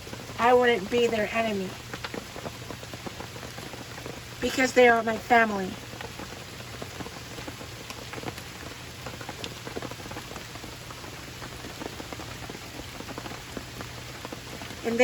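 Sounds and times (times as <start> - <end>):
raindrop ticks: 0.0 - 15.0
steady rain: 0.0 - 15.0.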